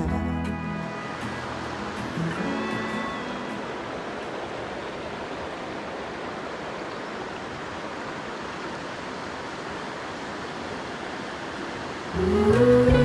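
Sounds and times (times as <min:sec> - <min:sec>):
mountain creek rushing: 0:00.0 - 0:13.0.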